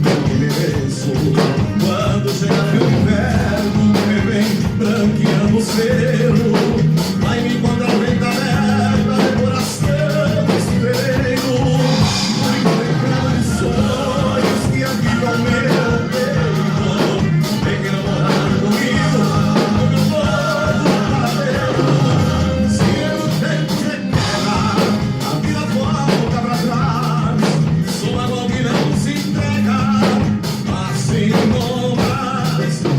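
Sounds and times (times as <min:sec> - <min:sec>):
band playing rock and roll: 0:00.0 - 0:32.9
running bass line: 0:00.0 - 0:32.9
steady drum beat: 0:00.0 - 0:32.9.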